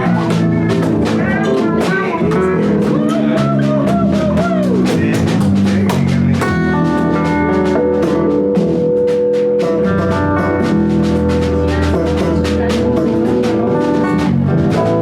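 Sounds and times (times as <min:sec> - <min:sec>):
drum kit beat: 0:00.0 - 0:15.0
guitar lead line: 0:00.0 - 0:15.0
live band playing: 0:00.0 - 0:15.0.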